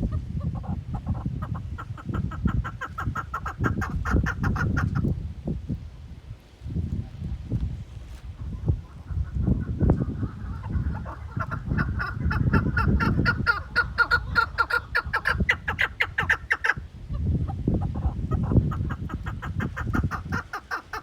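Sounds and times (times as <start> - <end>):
partridge clucking calls: 0.0 - 5.1, 8.4 - 21.0.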